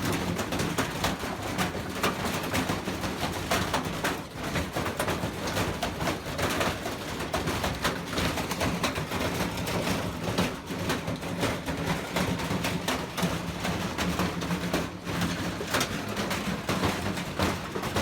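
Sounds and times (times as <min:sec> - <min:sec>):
washing machine knocking and rattling: 0:00.0 - 0:18.0.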